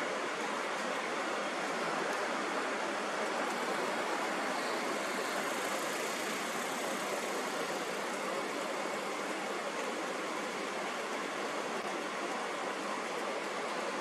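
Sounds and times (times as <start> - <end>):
steady hiss: 0.0 - 11.8.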